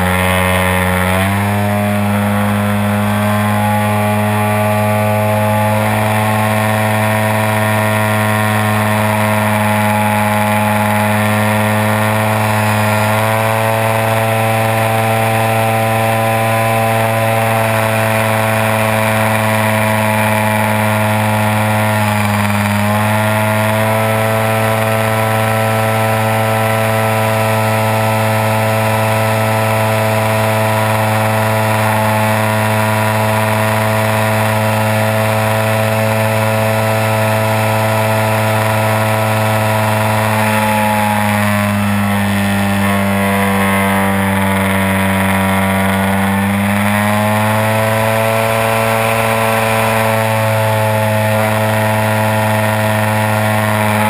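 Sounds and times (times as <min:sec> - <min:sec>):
model plane engine running: 0:00.0 - 0:54.0.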